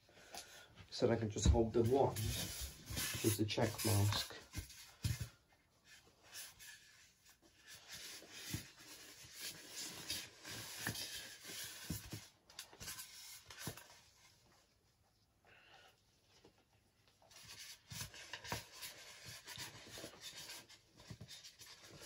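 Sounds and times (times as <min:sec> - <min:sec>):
rustling and scraping: 0:00.2 - 0:15.2, 0:16.2 - 0:22.0.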